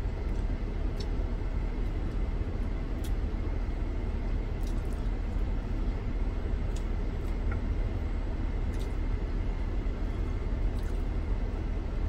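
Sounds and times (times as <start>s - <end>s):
engine idling low rumble: 0.0s - 12.0s.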